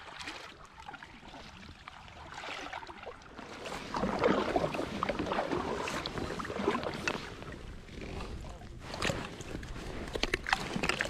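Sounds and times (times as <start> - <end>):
kayak paddle splashing water: 0.0 - 11.0.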